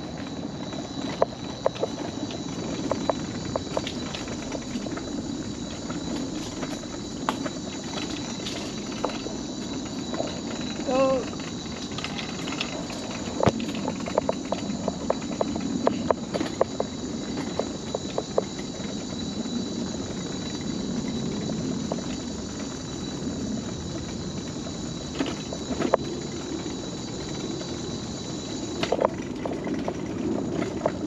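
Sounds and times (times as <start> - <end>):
wheels clacking over plank joints: 0.0 - 31.0
wheels rumbling on boardwalk: 0.0 - 31.0.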